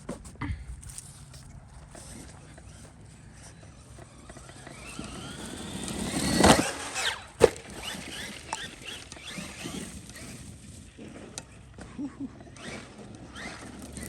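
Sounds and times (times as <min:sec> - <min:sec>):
electric motor whining: 0:01.0 - 0:14.0.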